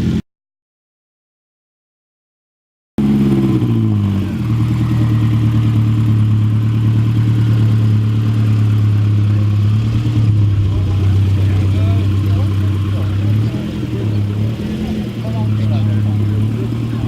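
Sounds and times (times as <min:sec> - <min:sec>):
car engine droning: 0:03.0 - 0:17.0.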